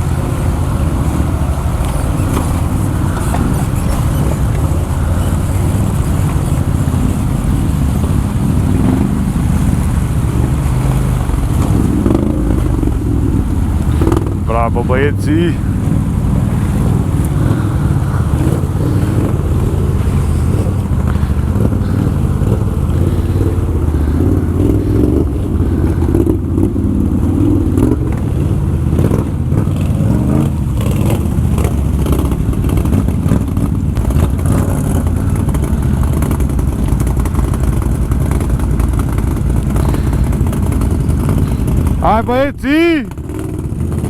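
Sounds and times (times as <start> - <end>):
atv engine running: 0.0 - 44.0.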